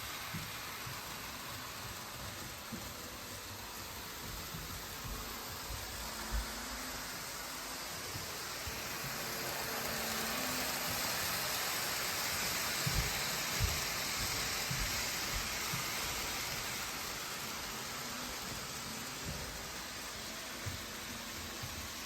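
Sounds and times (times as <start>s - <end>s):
model train whirring: 0.0s - 22.0s
wheels clicking on track: 0.0s - 22.0s.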